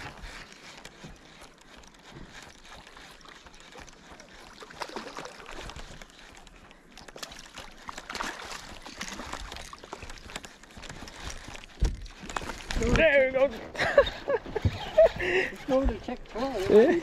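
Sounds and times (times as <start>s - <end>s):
water sloshing and splashing: 0.0s - 17.0s.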